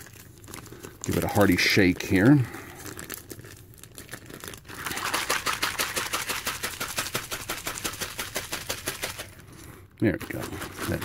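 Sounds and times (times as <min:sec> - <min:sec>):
plastic bag of liquid shaken: 0:00.0 - 0:11.0.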